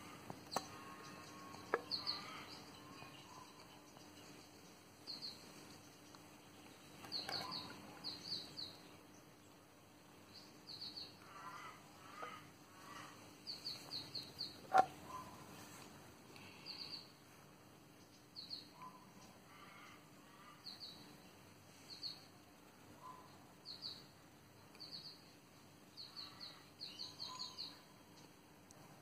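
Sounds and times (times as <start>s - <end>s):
faint birdsong chirps: 0.0s - 29.0s.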